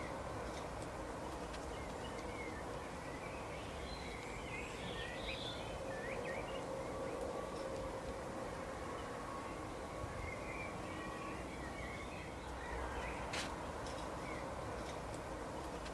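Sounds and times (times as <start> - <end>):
small birds chirping: 0.0 - 7.7, 10.2 - 15.9.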